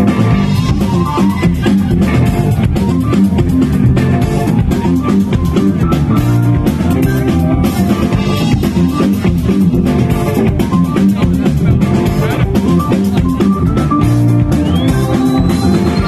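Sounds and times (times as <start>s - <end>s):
drum beat: 0.0s - 16.0s
funk band playing: 0.0s - 16.0s.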